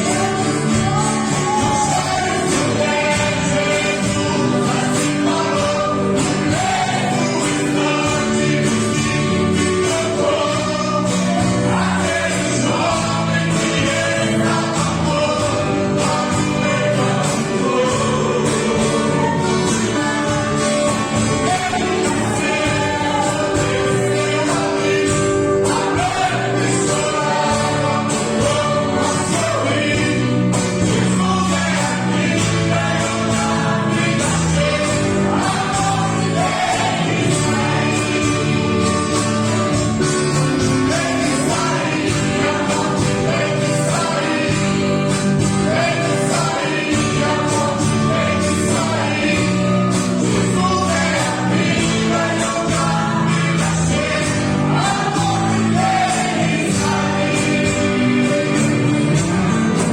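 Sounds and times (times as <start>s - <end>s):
instrumental backing with beat: 0.0s - 59.9s
men singing a hymn: 0.0s - 59.9s.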